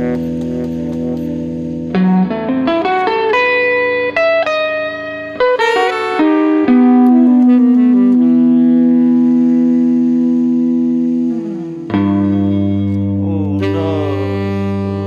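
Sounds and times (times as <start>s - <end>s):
electric guitar: 0.0s - 15.0s
tenor saxophone: 0.0s - 15.0s.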